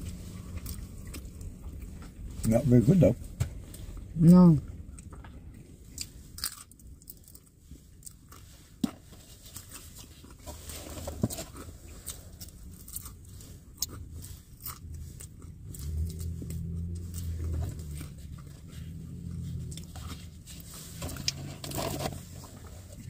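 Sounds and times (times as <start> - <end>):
person chewing food: 0.0 - 2.5, 4.7 - 23.0.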